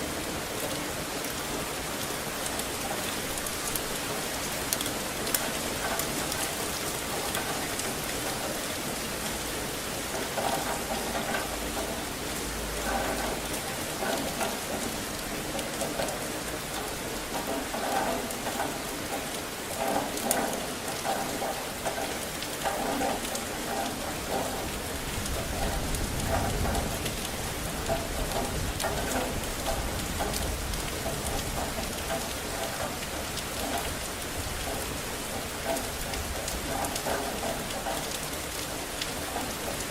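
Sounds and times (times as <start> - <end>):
rain splashing on hard surfaces: 0.0 - 39.9.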